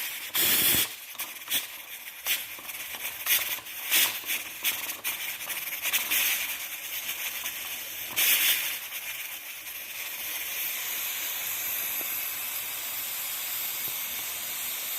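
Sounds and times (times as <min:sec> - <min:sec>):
pressure cooker hissing: 0:00.0 - 0:14.9.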